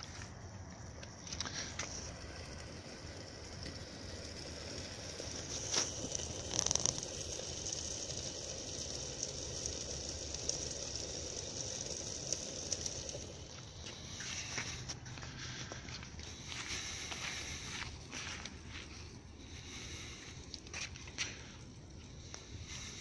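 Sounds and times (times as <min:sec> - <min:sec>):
pellet stove hissing: 0:00.0 - 0:23.0
stove fire crackles: 0:00.0 - 0:23.0.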